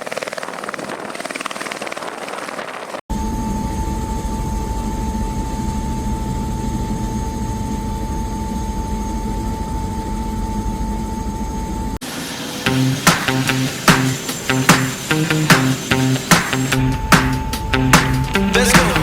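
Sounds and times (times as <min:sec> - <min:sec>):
helicopter rotor and engine rumble: 0:00.0 - 0:18.2
high-pitched whine: 0:02.3 - 0:19.0.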